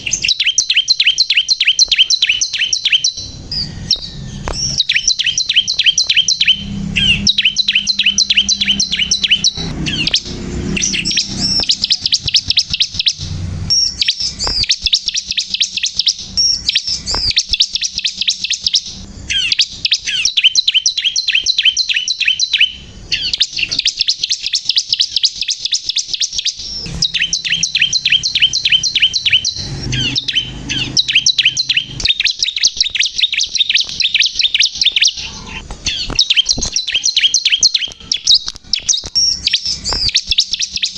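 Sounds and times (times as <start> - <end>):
bird singing fast high chirps: 0.0 - 40.9.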